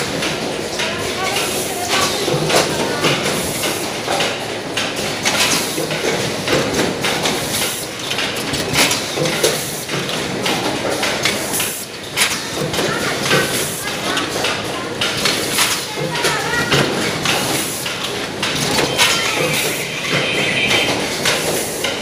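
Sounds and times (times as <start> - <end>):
machine clacking and knocking: 0.0 - 22.0.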